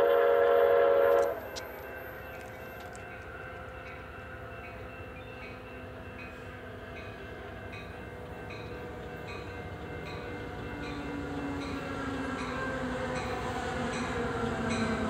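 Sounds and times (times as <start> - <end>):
passenger train approaching: 0.0 - 15.0.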